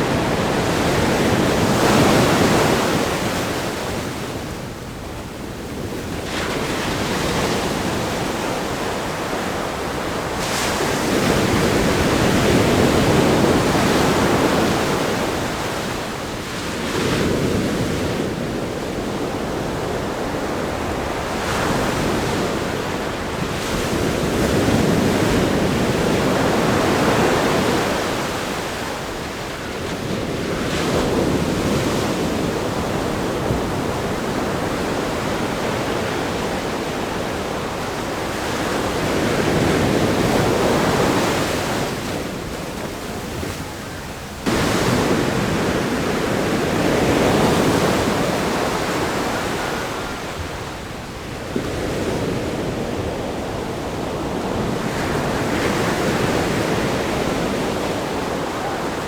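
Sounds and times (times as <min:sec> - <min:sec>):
ocean waves breaking on beach: 0:00.0 - 0:59.0
wind on microphone: 0:00.0 - 0:59.0.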